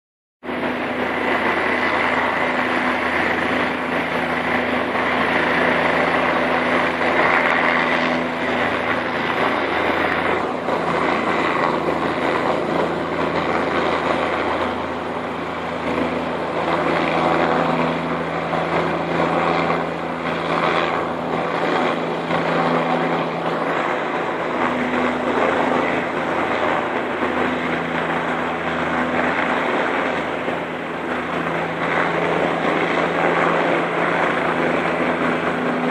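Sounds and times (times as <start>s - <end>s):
helicopter flying close: 0.4s - 35.9s.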